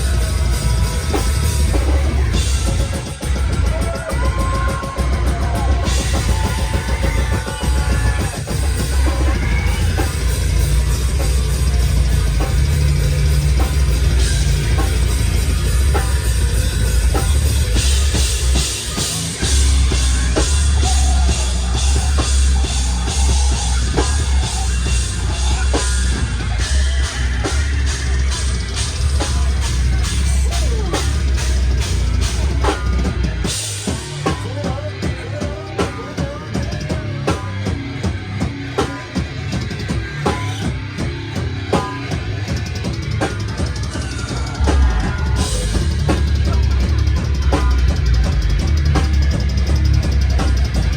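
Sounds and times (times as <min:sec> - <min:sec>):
drum kit pounding: 0:00.0 - 0:50.9
hardcore band playing live: 0:00.0 - 0:50.9.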